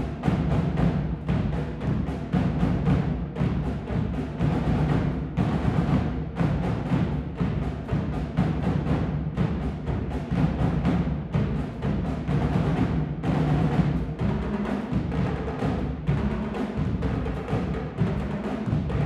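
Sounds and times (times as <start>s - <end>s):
bass drum: 0.0s - 19.0s
snare drums: 0.0s - 19.0s
tenor drums: 0.0s - 19.0s.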